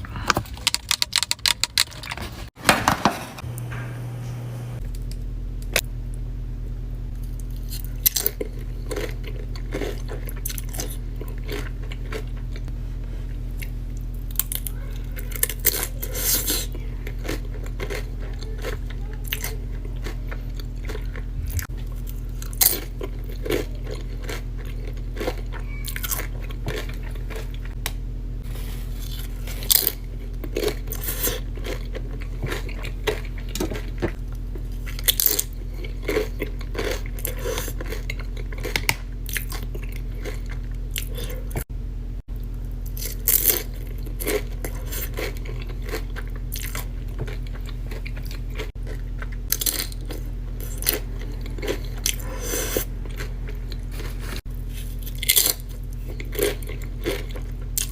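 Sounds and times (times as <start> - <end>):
steady low hum: 0.0 - 57.9
chewing crunchy chips: 7.2 - 12.7, 13.5 - 27.8, 28.8 - 41.6, 42.4 - 57.9.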